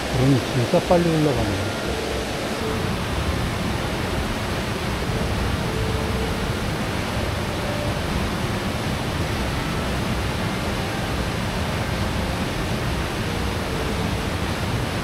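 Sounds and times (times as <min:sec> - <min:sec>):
mountain stream rushing over rocks: 0:00.0 - 0:15.0.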